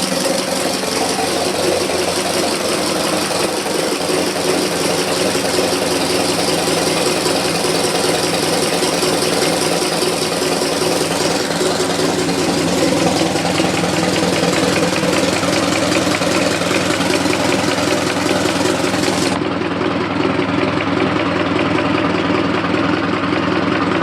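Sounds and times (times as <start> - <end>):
engine idling with ticking knock: 0.0 - 24.0.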